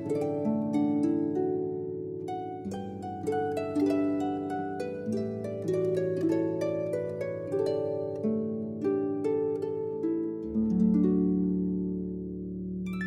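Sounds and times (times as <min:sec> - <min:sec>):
soft instrumental music: 0:00.0 - 0:13.0.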